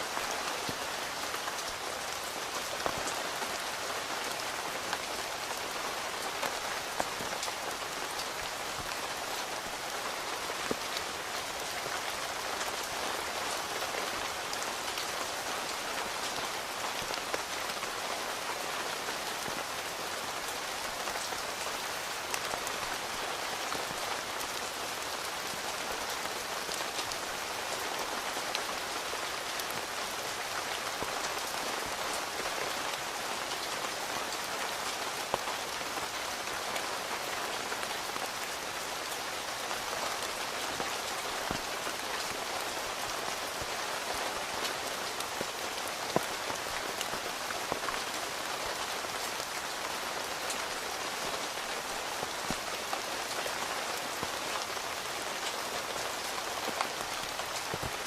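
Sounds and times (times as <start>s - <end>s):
rain on a tent: 0.0s - 58.0s.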